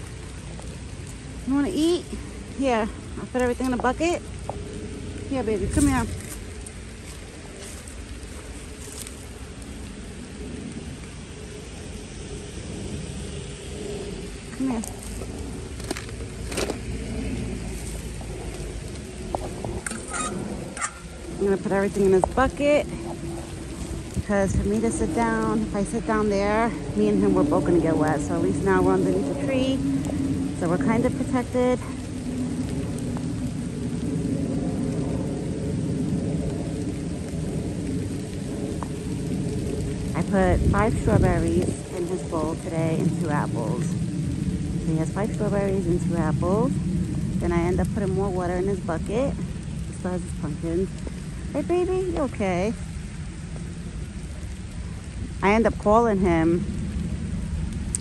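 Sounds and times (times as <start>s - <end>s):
light rain hissing: 0.0s - 58.0s
low rumble on microphone: 0.0s - 58.0s.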